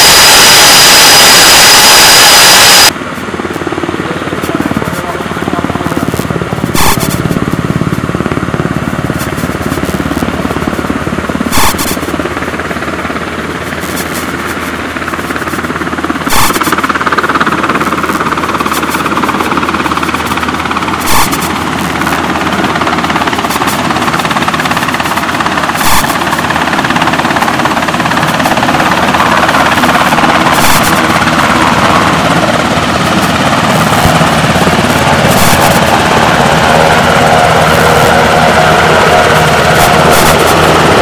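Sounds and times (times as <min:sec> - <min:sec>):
helicopter rotor and engines: 0:00.0 - 0:41.0.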